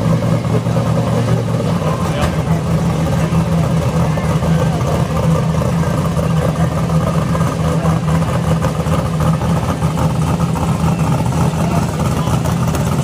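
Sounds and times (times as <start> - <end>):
drag car engine idling: 0.0 - 13.0.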